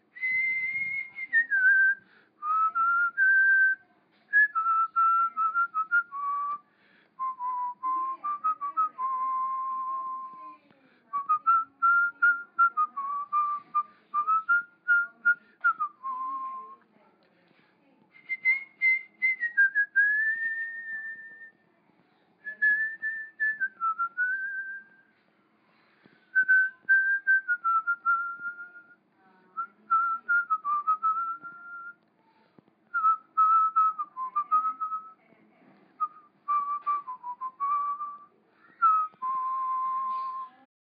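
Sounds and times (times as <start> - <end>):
person whistling a melody: 0.2 - 6.6, 7.2 - 10.5, 11.1 - 16.8, 18.2 - 21.6, 22.4 - 25.0, 26.3 - 29.0, 29.6 - 32.0, 32.9 - 35.2, 36.0 - 40.7.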